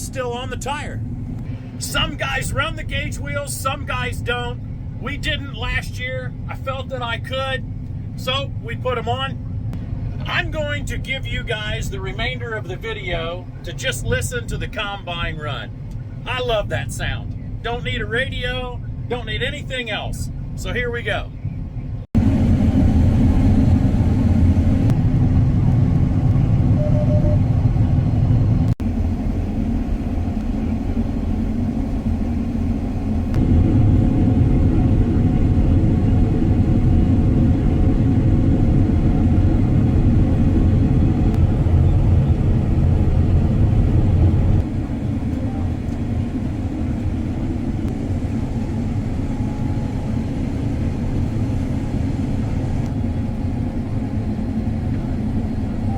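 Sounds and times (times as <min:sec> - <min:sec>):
combine harvester rumbling: 0:00.0 - 0:55.9.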